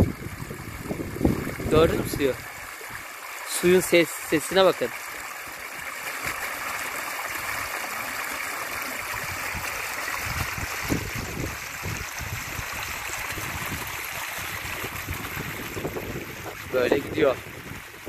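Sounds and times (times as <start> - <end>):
stream trickling over stones: 0.0 - 18.0.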